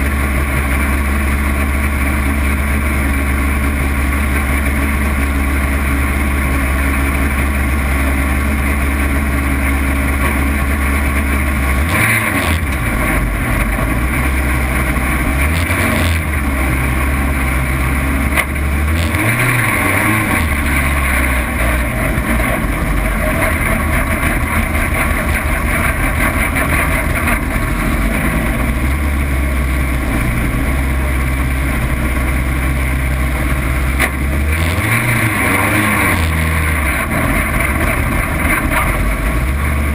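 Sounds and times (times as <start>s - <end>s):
car engine revving: 0.0s - 39.9s
tyres on dirt: 0.0s - 39.9s.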